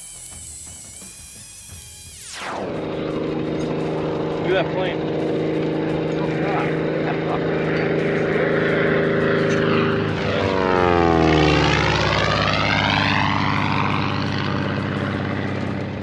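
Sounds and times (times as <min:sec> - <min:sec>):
propeller airplane passing: 0:00.0 - 0:16.0.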